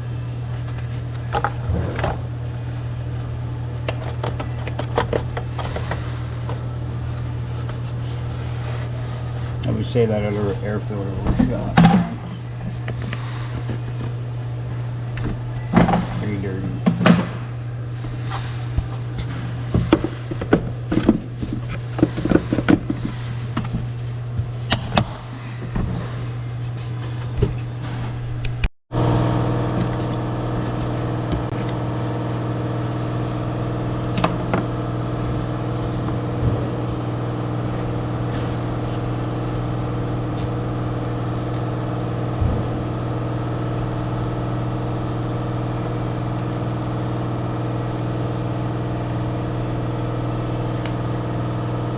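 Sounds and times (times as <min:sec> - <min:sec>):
low hum: 0:00.0 - 0:51.9.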